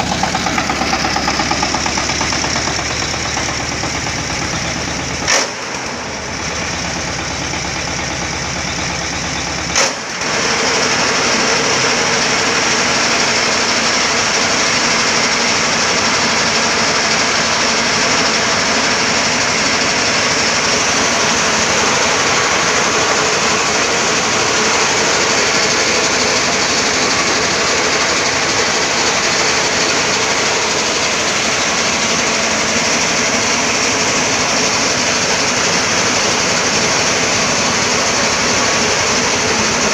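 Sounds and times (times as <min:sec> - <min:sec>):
harvesting machine engine running: 0:00.0 - 0:39.9.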